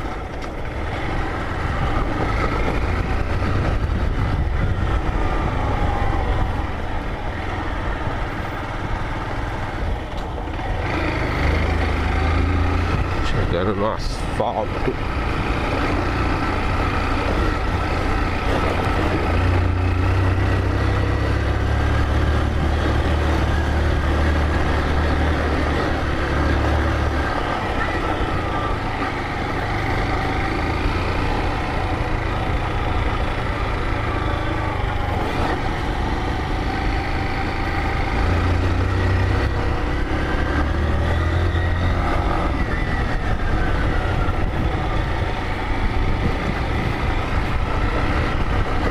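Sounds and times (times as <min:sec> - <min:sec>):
continuous rushing noise: 0:00.0 - 0:48.9
motorcycle engine rumbling: 0:00.0 - 0:48.9.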